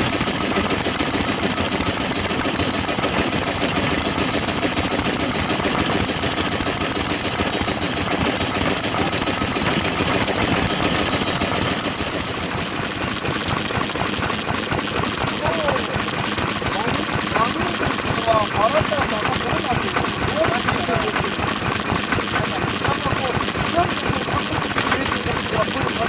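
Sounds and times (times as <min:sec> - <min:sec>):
stationary engine chugging: 0:00.0 - 0:26.0.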